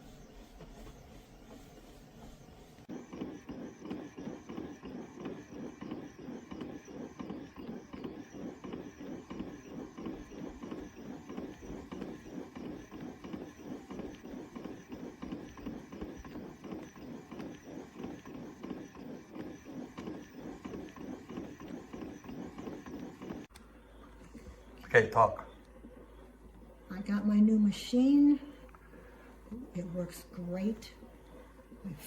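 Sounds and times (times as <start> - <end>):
elliptical exerciser churning: 0.0 - 32.0.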